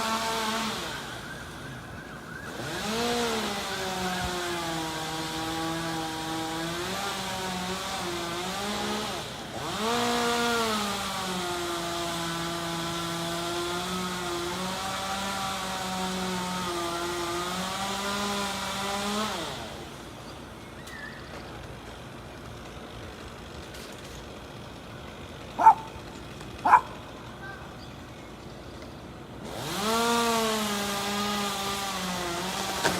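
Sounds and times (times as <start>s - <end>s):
chainsaw running: 0.0s - 1.4s, 2.5s - 32.9s.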